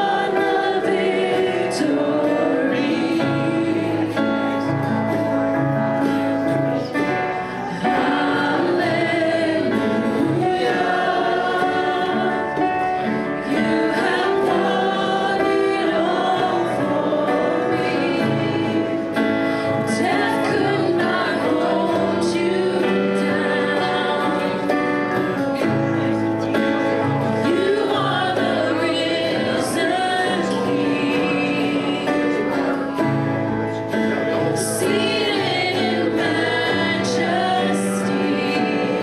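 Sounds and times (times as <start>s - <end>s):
voices singing: 0.0s - 5.4s, 6.6s - 39.0s
instrumental accompaniment: 0.0s - 39.0s.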